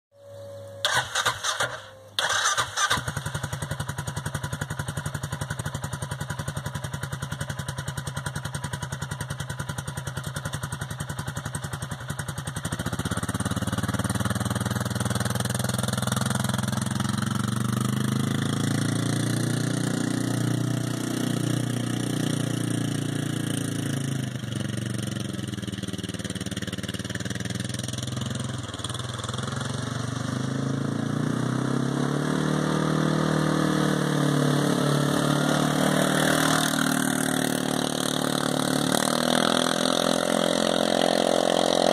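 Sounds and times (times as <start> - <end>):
atv engine starting revving and idling: 0.8 - 41.9.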